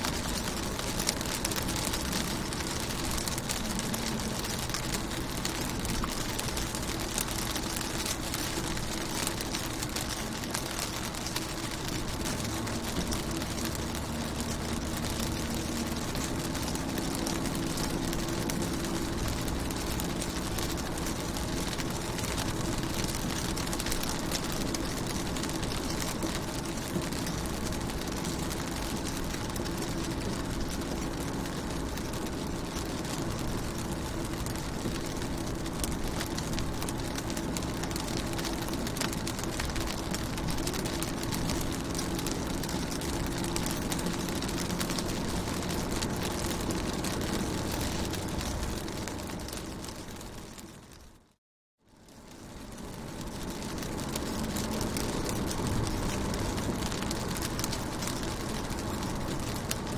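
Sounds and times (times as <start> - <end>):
rain pattering on car window: 0.0 - 59.9.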